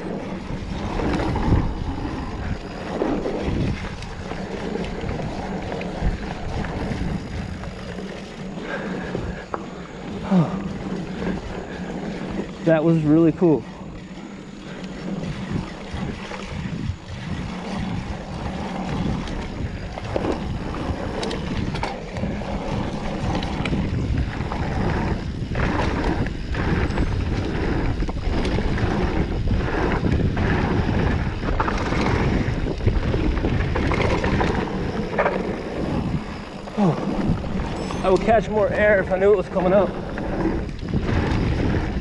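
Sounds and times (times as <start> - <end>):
bike rattling over bumps: 0.0 - 42.0
tyres rolling over dirt: 0.0 - 42.0
wind buffeting microphone: 0.0 - 42.0.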